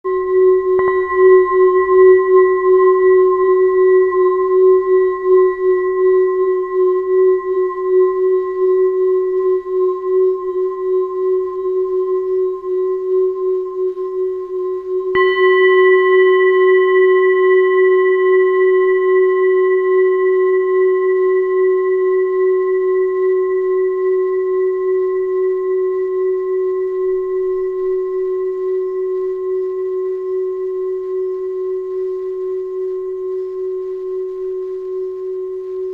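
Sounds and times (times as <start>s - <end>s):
singing bowl ringing: 0.0s - 13.4s, 15.0s - 35.6s.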